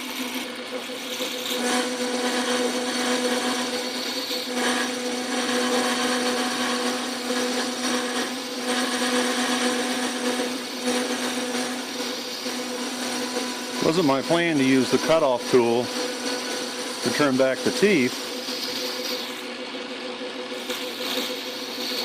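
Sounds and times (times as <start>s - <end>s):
lathe motor hum: 0.0s - 22.0s
tool cutting steel gear: 0.0s - 22.0s.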